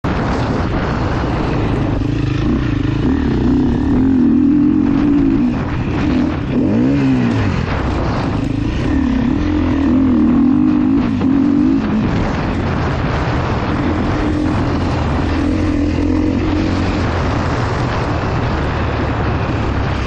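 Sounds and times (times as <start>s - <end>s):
dirt bike engine revving: 0.1s - 20.0s.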